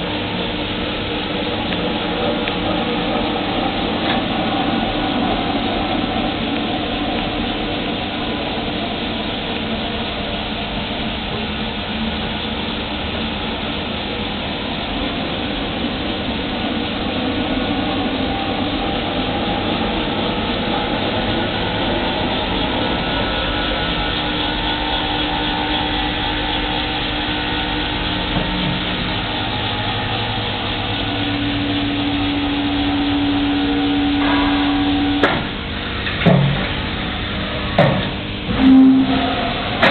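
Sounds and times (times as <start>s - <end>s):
milling machine hum and hiss: 0.0s - 39.9s.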